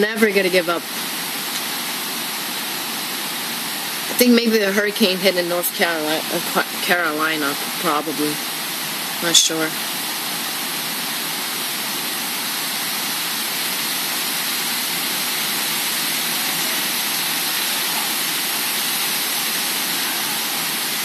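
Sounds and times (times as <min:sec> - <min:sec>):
heavy rain: 0:00.0 - 0:21.0
wind gusting through trees: 0:00.0 - 0:21.0.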